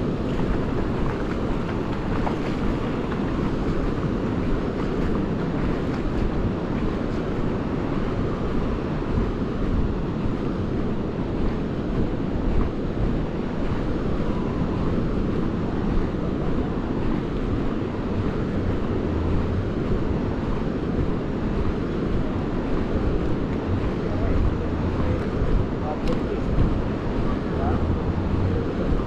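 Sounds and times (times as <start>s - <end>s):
sea surf breaking: 0.0s - 29.0s
wind rumble on microphone: 0.0s - 29.0s.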